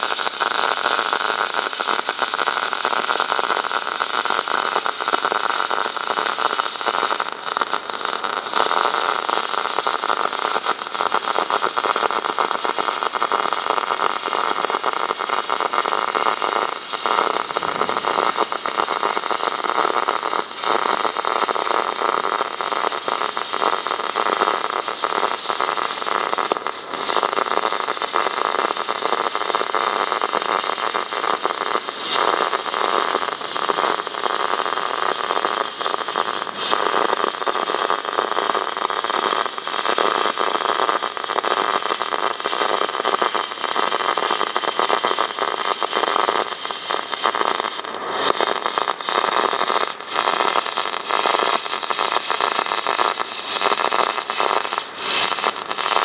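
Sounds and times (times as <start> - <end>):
welding arc hissing and crackling: 0.0 - 56.0.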